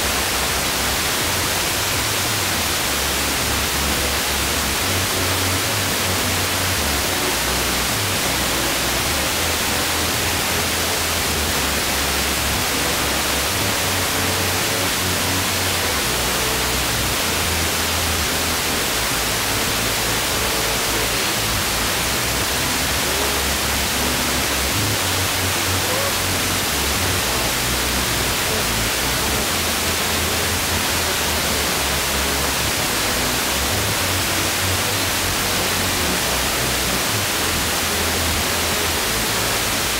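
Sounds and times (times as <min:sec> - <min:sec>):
faint music with bass line: 0:00.0 - 0:39.9
radio static hiss: 0:00.0 - 0:39.9.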